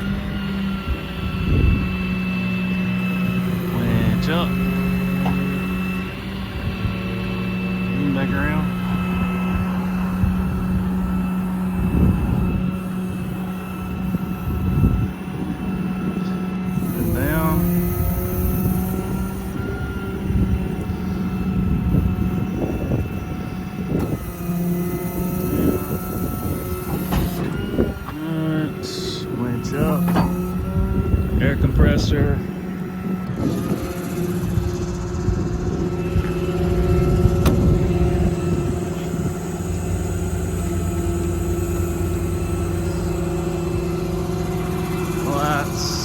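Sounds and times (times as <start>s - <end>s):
diesel engine running: 0.0s - 46.0s
hydraulic pump whining: 0.0s - 46.0s.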